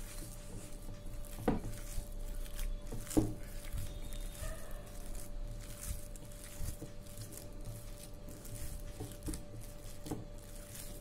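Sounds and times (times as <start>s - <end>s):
hand squelching minced meat: 0.0s - 11.0s.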